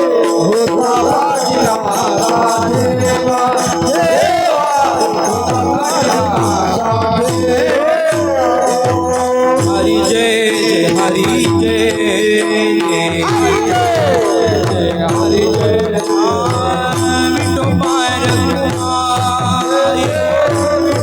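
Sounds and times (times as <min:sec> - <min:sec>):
hand cymbals jingling: 0:00.0 - 0:21.0
harmonium drone: 0:00.0 - 0:21.0.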